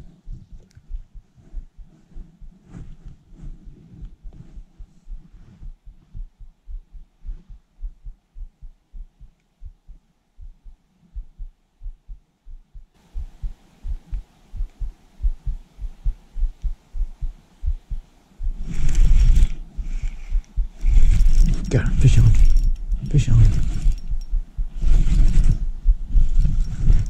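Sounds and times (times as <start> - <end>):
faint hiss: 0.0 - 27.0.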